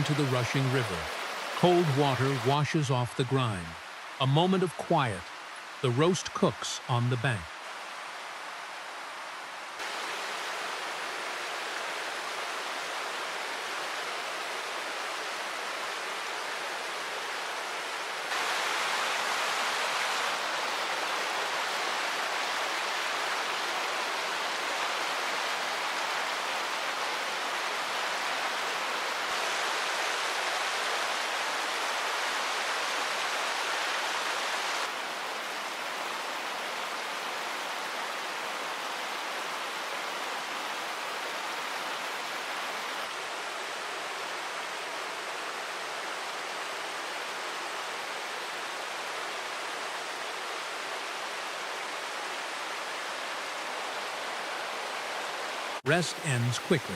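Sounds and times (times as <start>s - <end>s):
rushing river water: 0.0s - 56.9s.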